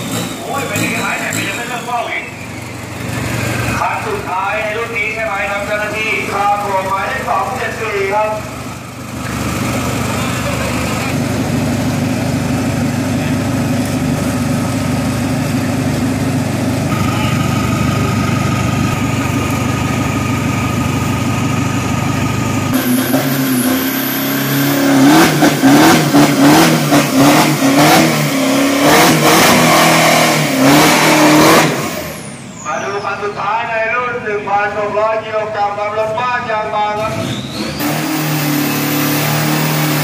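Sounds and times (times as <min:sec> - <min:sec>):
truck engine idling and revving: 0:00.0 - 0:40.0.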